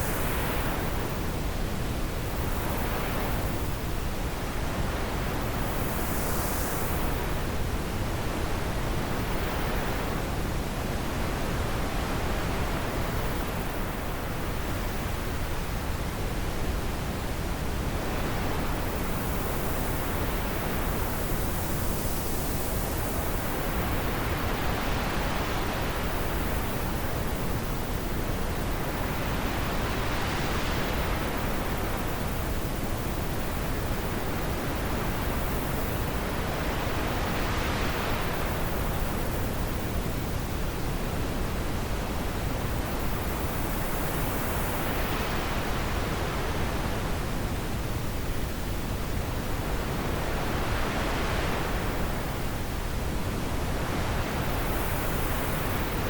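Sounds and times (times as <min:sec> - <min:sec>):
steady wind: 0:00.0 - 0:56.0.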